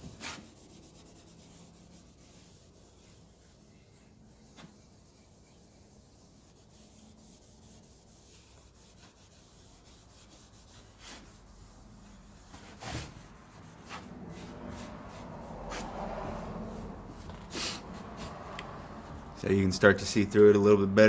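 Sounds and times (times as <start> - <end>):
brush and rag rubbing wood: 0.0 - 20.2.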